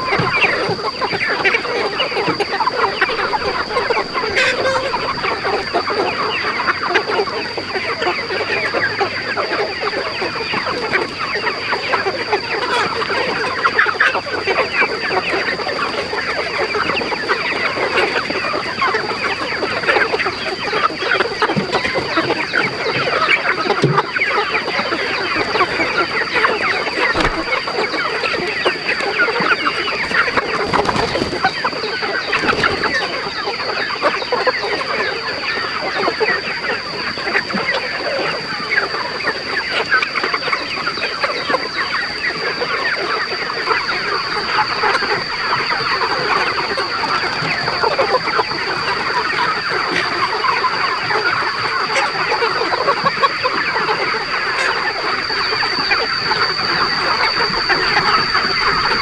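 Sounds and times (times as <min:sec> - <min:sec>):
chickens clucking: 0:00.0 - 0:59.0
steady high-pitched whine: 0:00.0 - 0:59.0.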